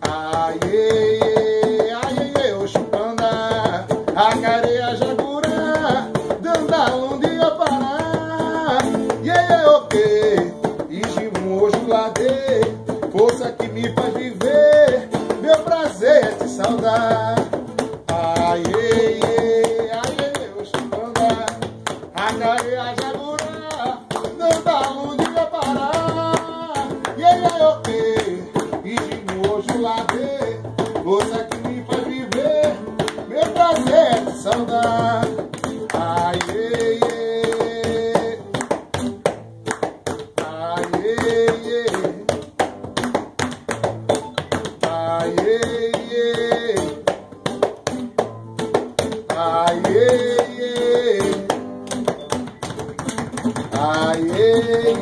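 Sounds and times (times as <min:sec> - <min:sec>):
hands slapping a tabletop: 0:00.0 - 0:55.0
man singing: 0:00.0 - 0:55.0.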